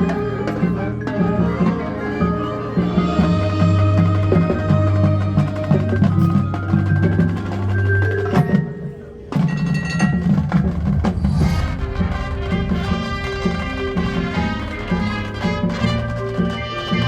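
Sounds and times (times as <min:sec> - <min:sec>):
mallet and drum percussion: 0:00.0 - 0:17.0
marching band playing: 0:00.0 - 0:17.0.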